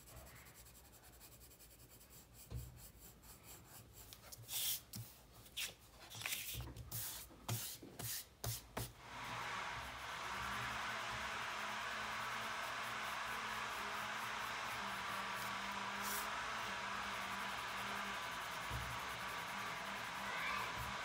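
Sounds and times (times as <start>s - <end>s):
colored pencil scratching on paper: 0.0s - 8.9s, 12.7s - 21.0s.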